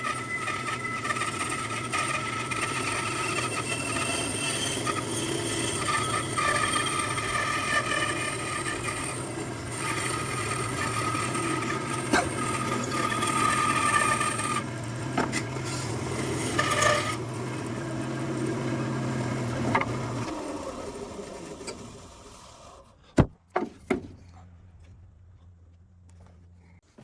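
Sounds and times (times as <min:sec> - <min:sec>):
motor-driven machine humming and rasping: 0:00.0 - 0:23.0.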